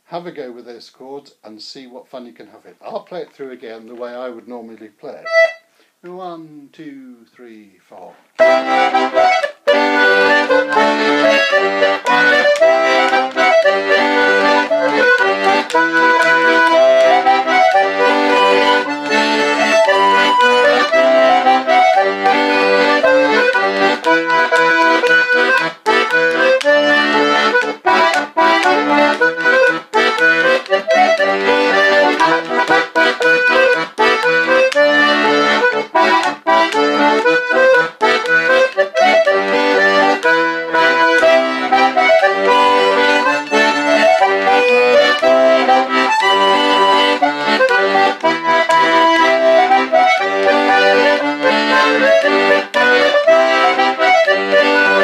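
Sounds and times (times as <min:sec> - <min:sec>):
button accordion folk dance tune: 0:05.1 - 0:06.2, 0:08.3 - 0:55.0.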